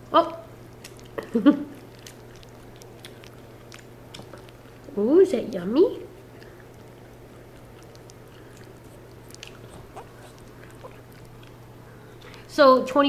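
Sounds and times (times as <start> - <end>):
steady low hum: 0.0 - 13.0
puppy licking wet food: 0.6 - 12.5.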